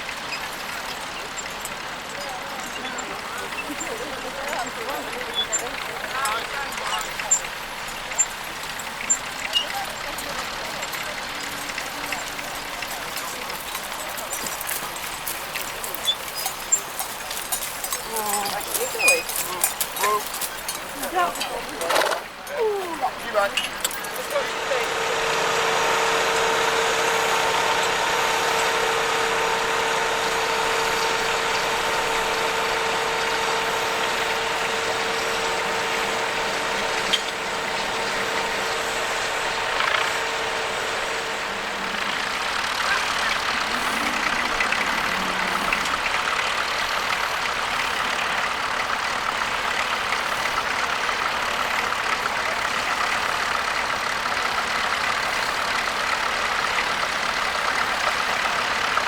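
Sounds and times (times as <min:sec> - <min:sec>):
steady whine: 0:00.0 - 0:59.0
tractor engine running: 0:00.0 - 0:59.0.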